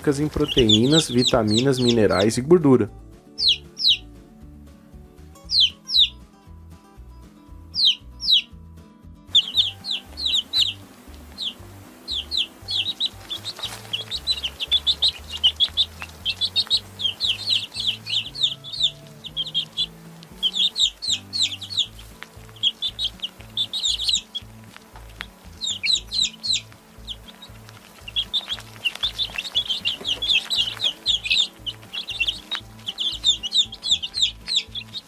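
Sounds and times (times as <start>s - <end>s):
baby chicks peeping: 0.0s - 4.2s, 5.2s - 6.3s, 7.6s - 8.6s, 9.3s - 35.0s
soft background music: 0.0s - 35.0s.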